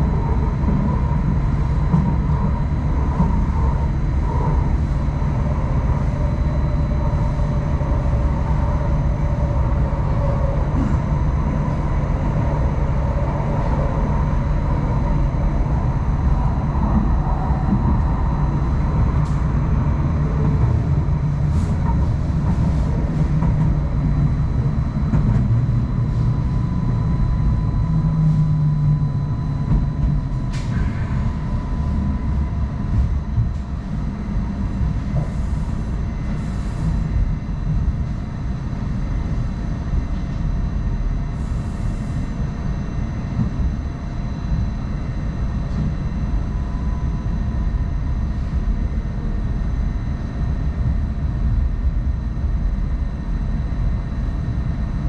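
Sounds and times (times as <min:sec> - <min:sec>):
light rail vehicle rumble: 0:00.0 - 0:55.0.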